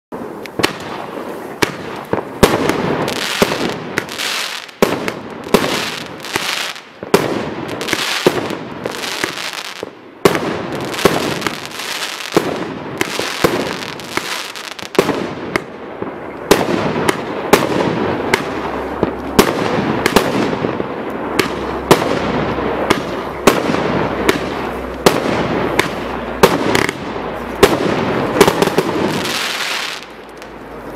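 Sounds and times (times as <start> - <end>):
fireworks bangs: 0.1 - 30.9
fireworks crackling: 0.1 - 30.9.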